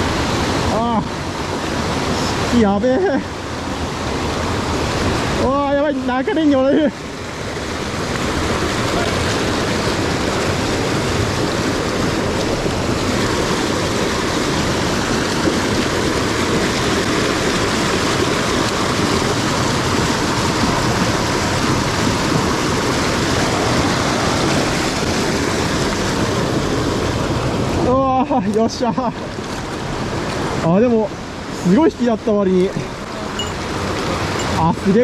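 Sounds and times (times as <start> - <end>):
stream rushing: 0.0 - 35.0.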